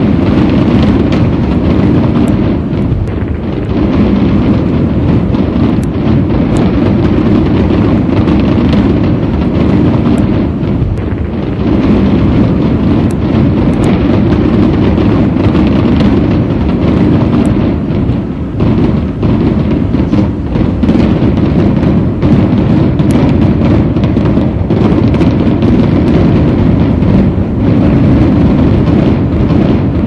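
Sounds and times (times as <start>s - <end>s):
fireworks bangs: 0.0s - 30.0s
sharp firework cracks: 0.0s - 30.0s.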